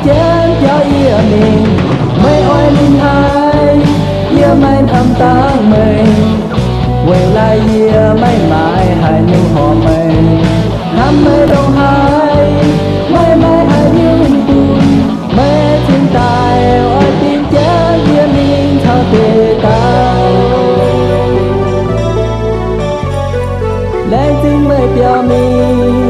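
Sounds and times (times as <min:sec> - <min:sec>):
rock song with bending lead melody: 0:00.0 - 0:26.0.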